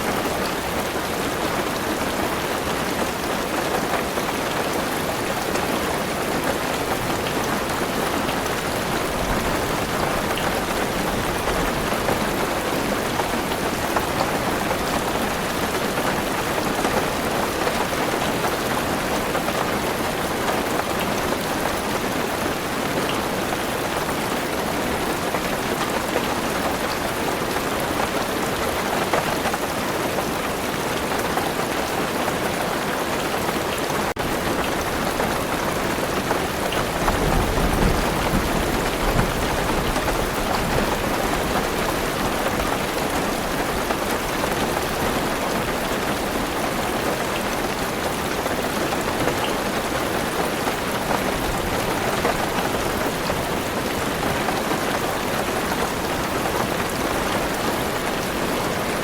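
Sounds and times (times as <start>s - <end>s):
heavy rain on a car roof: 0.0s - 59.0s.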